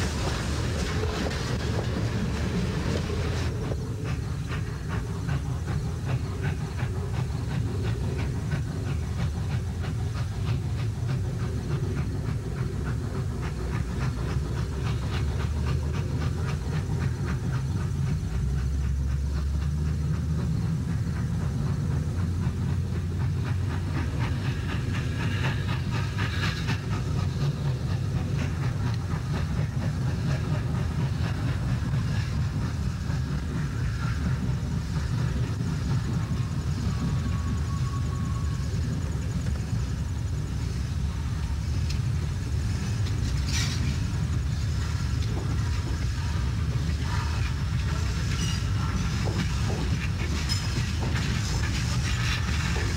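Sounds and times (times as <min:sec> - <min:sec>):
rail clatter: 0:00.0 - 0:52.9
steam hissing: 0:00.0 - 0:52.9
steam locomotive rumble: 0:00.0 - 0:52.9.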